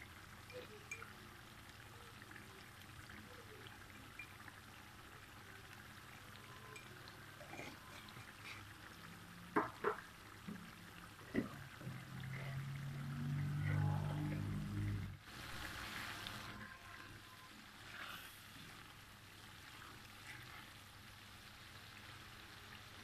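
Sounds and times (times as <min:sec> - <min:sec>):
sauce bubbling and popping in a wok: 0:00.0 - 0:23.0.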